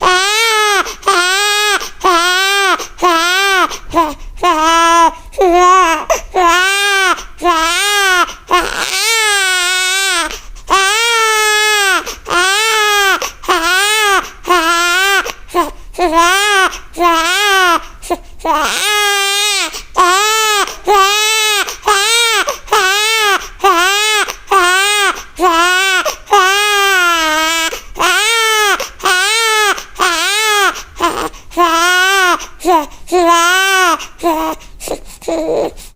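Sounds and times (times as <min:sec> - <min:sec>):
baby crying: 0:00.0 - 0:35.8.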